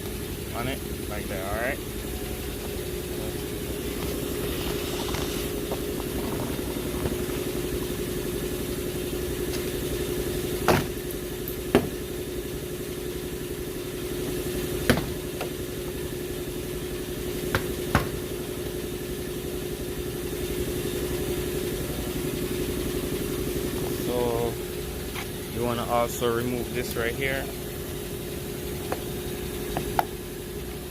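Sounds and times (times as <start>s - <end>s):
engine-like hum: 0.0s - 30.9s.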